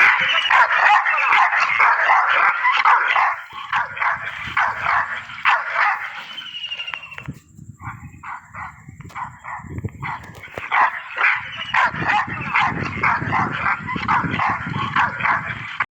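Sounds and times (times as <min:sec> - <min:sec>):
dogs barking: 0:00.0 - 0:15.9.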